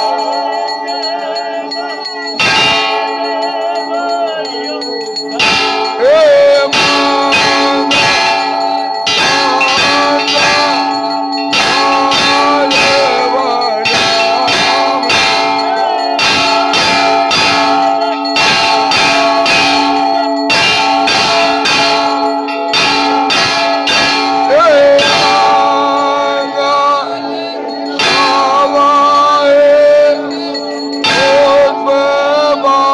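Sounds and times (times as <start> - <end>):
temple bells ringing: 0.0 - 32.9.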